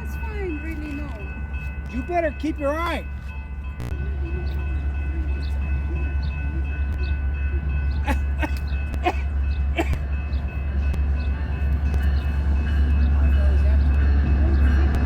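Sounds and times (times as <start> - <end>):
crossing bell dinging: 0.0 - 15.0
train rumbling: 0.0 - 15.0.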